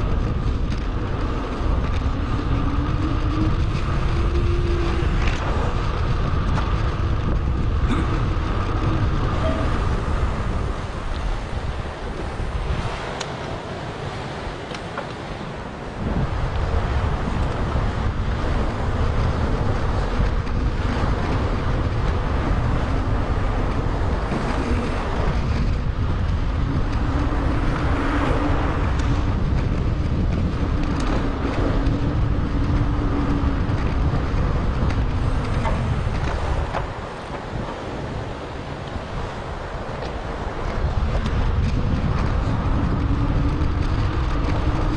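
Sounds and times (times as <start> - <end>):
road noise: 0.0 - 44.9
wind buffeting microphone: 0.0 - 44.9.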